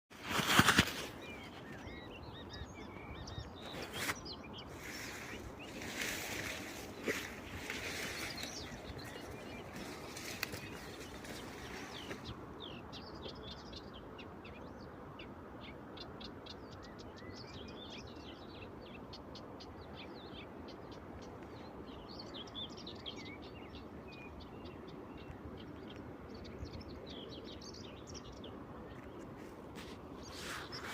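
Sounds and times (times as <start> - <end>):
birds chirping and singing: 0.6 - 30.9.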